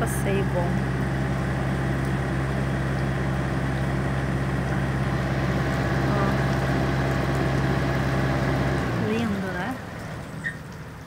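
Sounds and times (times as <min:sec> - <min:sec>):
cooling unit motor drone: 0:00.0 - 0:11.0.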